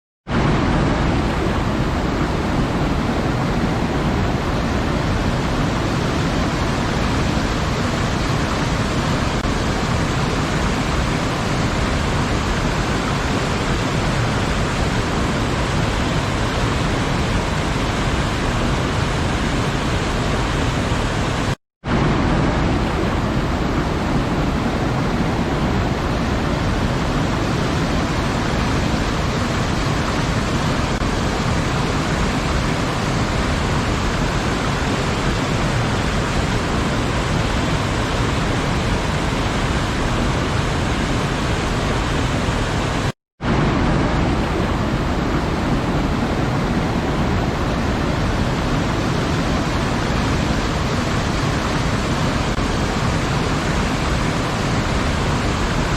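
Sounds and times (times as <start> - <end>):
waterfall rushing: 0.3 - 55.9.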